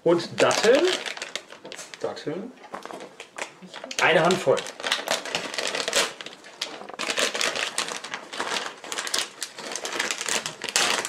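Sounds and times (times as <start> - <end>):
plastic packet crinkling: 0.2 - 11.0.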